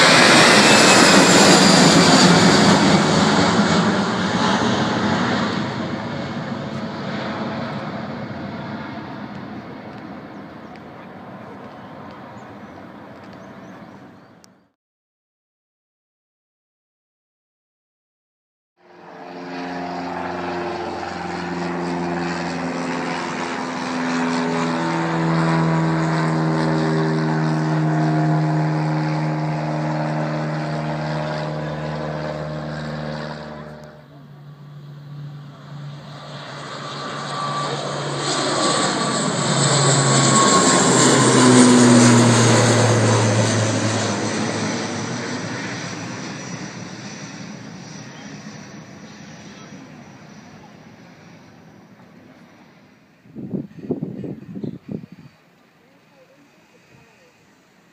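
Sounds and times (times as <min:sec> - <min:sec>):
propeller aircraft passing: 0:00.0 - 0:14.6, 0:18.8 - 0:57.9
propeller aircraft engines humming: 0:00.0 - 0:14.7, 0:18.8 - 0:57.9.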